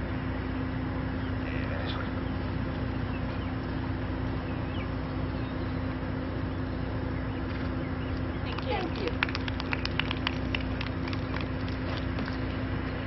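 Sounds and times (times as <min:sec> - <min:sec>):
constant low hum: 0:00.0 - 0:13.0.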